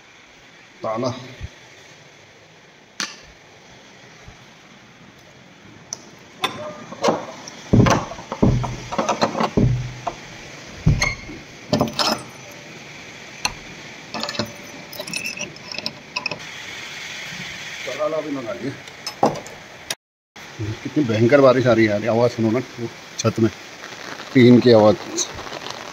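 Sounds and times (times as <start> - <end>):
rain hissing: 0.0 - 25.9.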